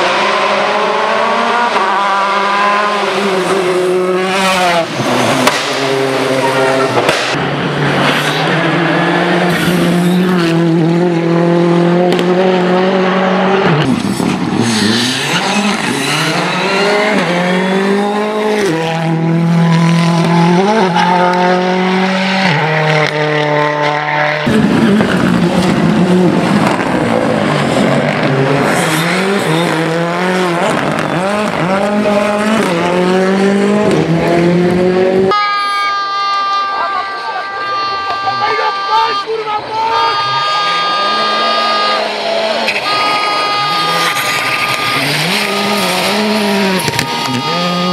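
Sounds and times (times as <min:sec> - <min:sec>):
rally car engines revving hard: 0:00.0 - 0:35.3, 0:37.7 - 0:47.9.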